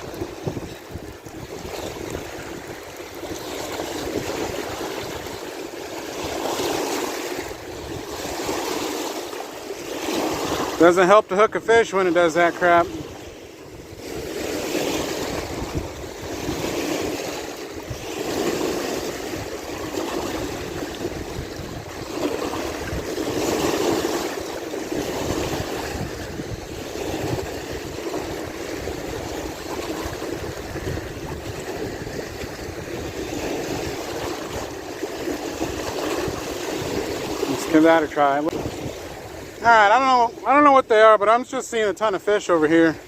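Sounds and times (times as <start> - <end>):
wind on microphone: 0.0 - 9.2, 9.8 - 10.8, 12.6 - 39.8
waves washing on shore: 0.0 - 43.0.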